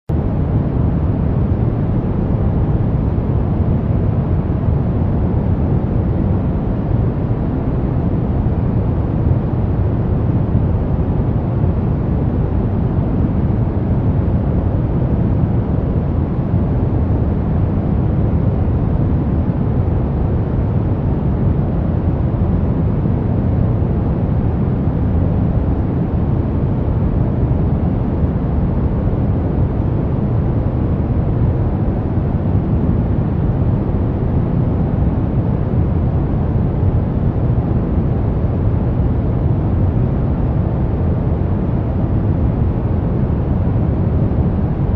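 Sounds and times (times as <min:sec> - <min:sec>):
brown noise rumbling hiss: 0:00.1 - 0:44.9.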